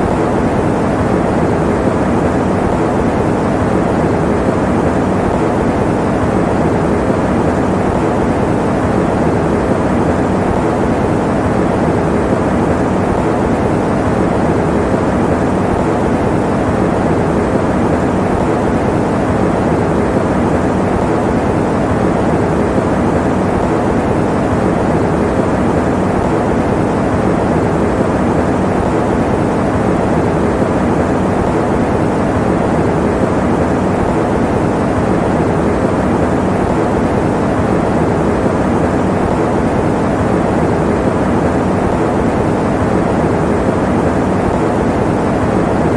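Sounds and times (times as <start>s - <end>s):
electric fan running: 0.0s - 45.9s.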